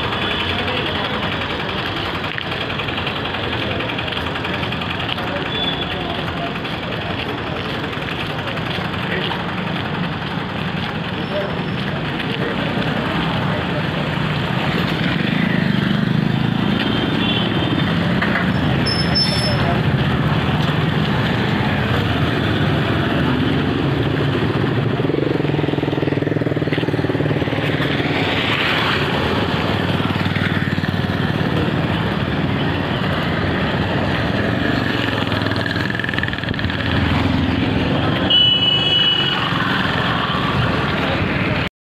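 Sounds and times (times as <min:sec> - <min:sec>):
vehicle engines passing: 0:00.0 - 0:41.7.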